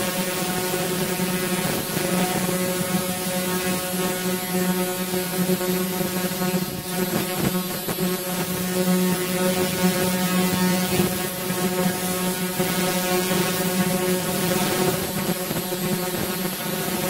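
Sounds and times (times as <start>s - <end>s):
laser rust cleaner buzzing hum: 0.0s - 17.0s.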